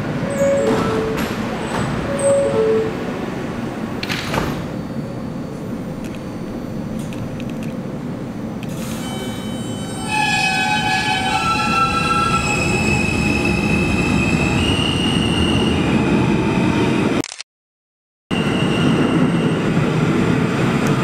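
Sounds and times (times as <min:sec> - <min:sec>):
subway train low rumble: 0:00.0 - 0:17.2, 0:18.3 - 0:21.0.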